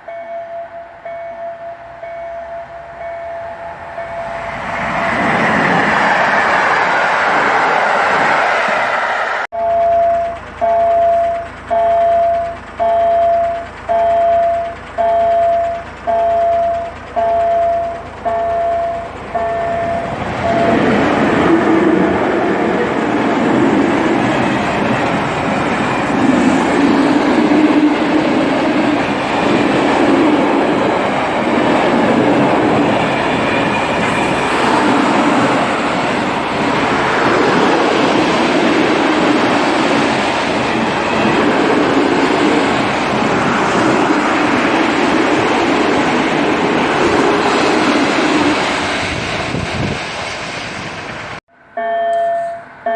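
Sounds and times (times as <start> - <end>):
level crossing warning tone: 0.0 - 8.3, 8.9 - 48.5, 51.5 - 52.9
train wheels rolling on rails: 0.0 - 52.9.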